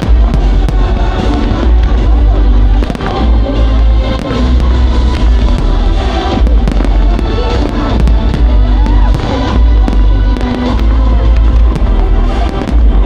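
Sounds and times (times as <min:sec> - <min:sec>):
fireworks bursting and crackling: 0:00.0 - 0:13.0
loud music with heavy bass: 0:00.0 - 0:13.0.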